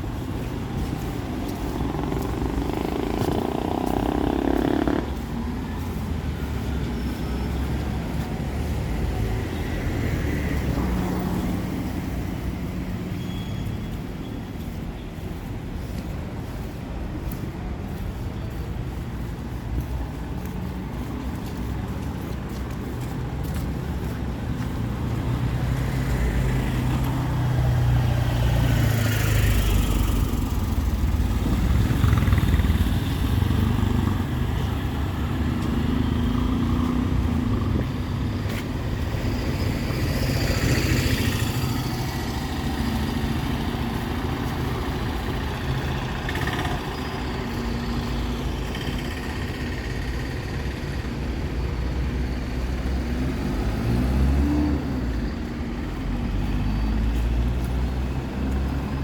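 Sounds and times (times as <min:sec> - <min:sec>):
traffic engines running: 0:00.0 - 0:59.0
vehicles passing close: 0:00.0 - 0:59.0.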